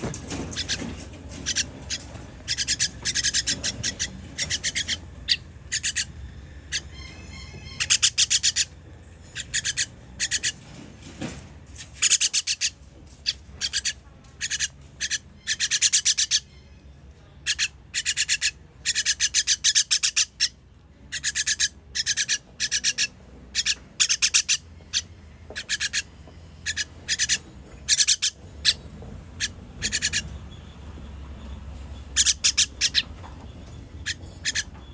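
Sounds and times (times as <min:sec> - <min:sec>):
baby bird begging chirps: 0:00.5 - 0:10.6, 0:11.8 - 0:16.6, 0:17.4 - 0:30.4, 0:32.0 - 0:33.2, 0:34.0 - 0:34.9.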